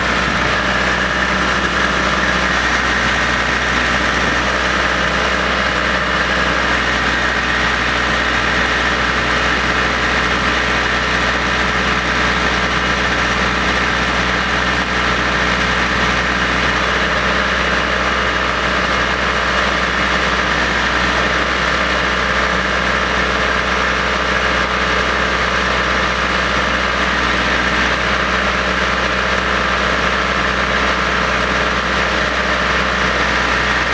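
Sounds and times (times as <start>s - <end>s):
trencher engine running: 0.0s - 33.9s.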